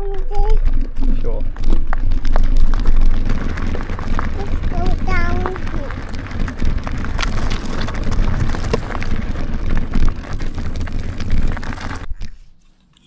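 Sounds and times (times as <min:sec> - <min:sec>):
wind buffeting microphone: 0:00.0 - 0:12.2
mountain bike rolling on stony track: 0:00.0 - 0:12.6
tyre and frame crackles: 0:00.0 - 0:13.0.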